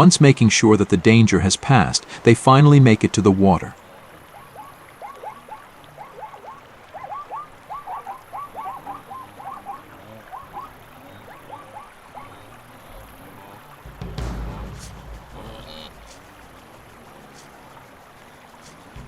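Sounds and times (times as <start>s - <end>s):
chorus of croaking calls: 3.6s - 19.0s.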